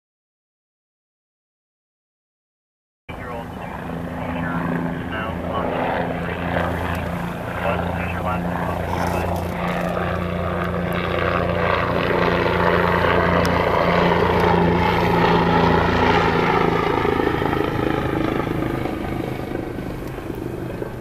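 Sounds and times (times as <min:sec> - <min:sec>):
helicopter flying past: 0:03.1 - 0:21.0.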